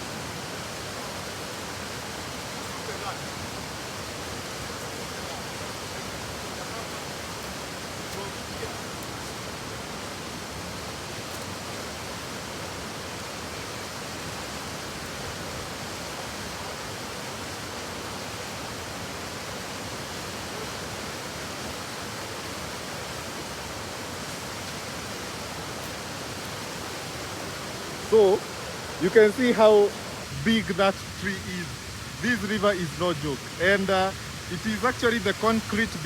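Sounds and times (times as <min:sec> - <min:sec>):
river rushing: 0:00.0 - 0:36.0.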